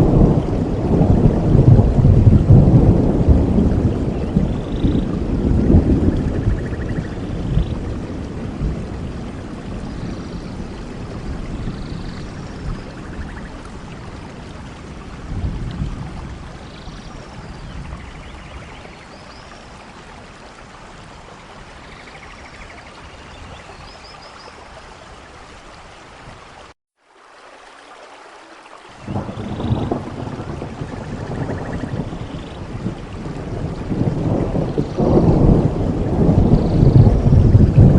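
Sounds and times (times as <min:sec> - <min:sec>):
low rolling thunder: 0:00.0 - 0:22.3, 0:29.0 - 0:37.9
steady rainfall: 0:00.0 - 0:37.9.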